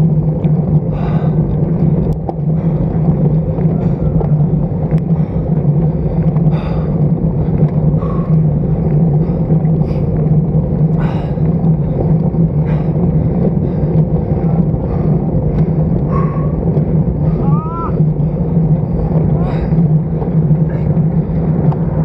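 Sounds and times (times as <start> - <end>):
road noise: 0.0 - 22.0
wind rumble on microphone: 0.0 - 22.0.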